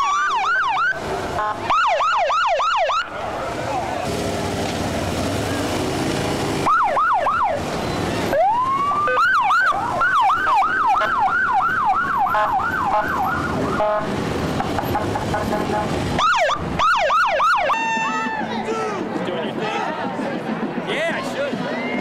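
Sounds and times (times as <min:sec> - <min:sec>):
police sirens yelping and wailing: 0:00.0 - 0:22.0
motorcycle engines running: 0:00.4 - 0:21.7.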